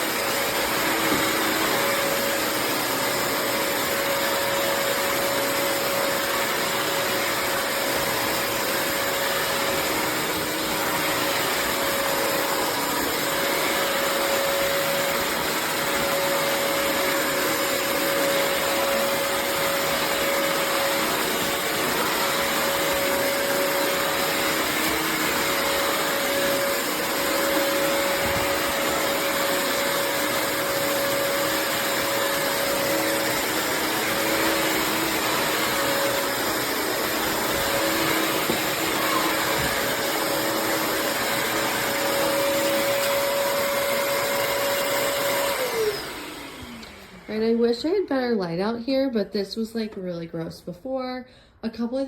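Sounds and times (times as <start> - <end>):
floor cleaner running: 0.0 - 48.4.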